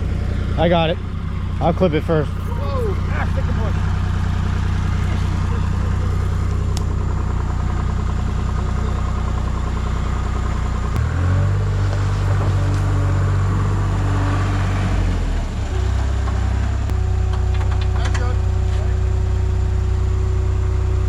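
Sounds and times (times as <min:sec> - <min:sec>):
skid steer engine revving: 0:00.0 - 0:21.0.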